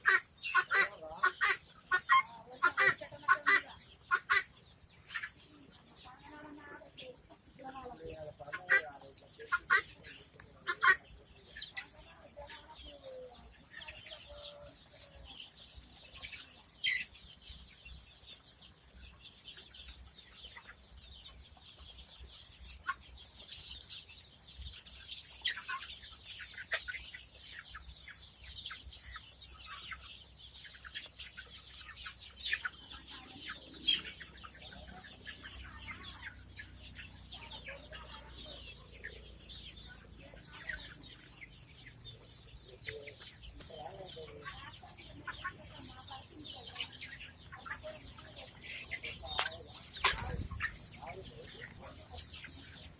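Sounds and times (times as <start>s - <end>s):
poultry chirping and clucking: 0.0s - 52.9s.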